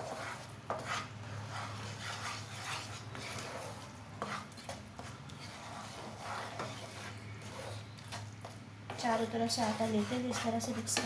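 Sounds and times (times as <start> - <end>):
spatula scraping paste in pan: 0.0 - 11.0.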